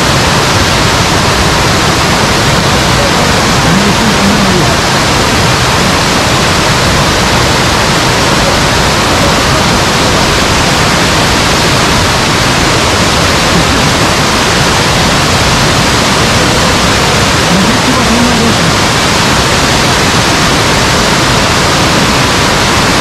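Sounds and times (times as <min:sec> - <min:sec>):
mountain water rushing: 0:00.0 - 0:23.0.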